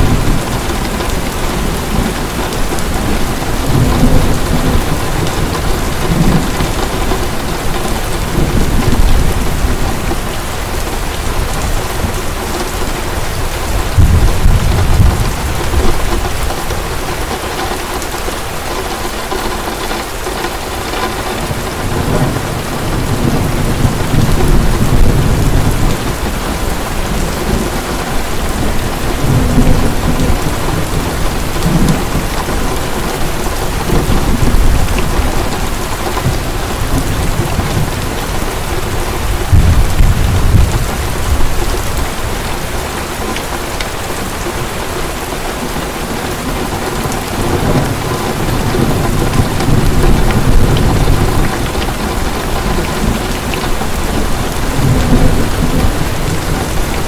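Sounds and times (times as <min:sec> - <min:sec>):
heavy rain falling: 0:00.0 - 0:57.0
thunder rumbling: 0:00.0 - 0:57.0.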